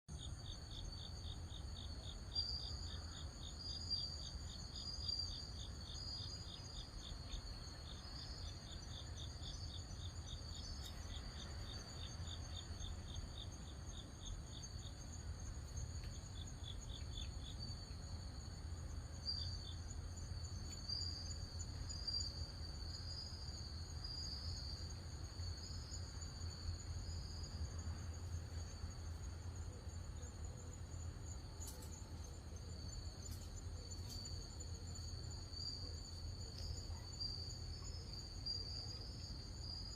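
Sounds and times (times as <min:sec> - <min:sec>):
insects trilling: 0:00.1 - 0:39.9
pulsed insect chirp: 0:00.2 - 0:39.9.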